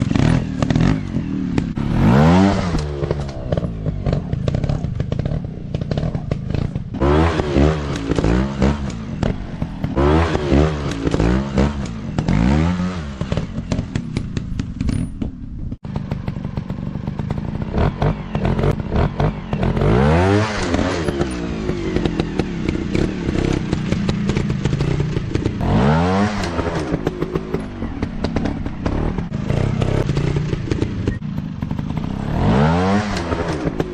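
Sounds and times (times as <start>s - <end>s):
dirt bike engines revving: 0.0s - 14.6s, 15.9s - 33.9s.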